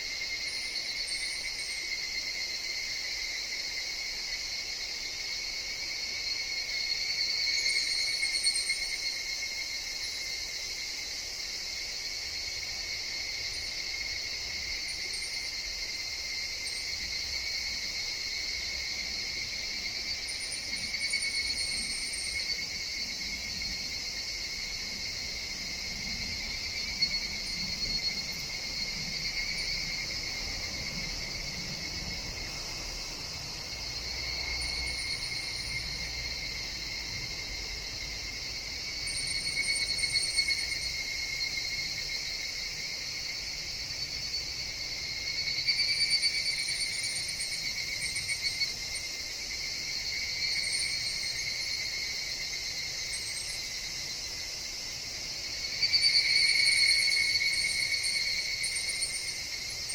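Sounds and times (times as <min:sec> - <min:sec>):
cicadas calling: 0:00.0 - 0:59.9.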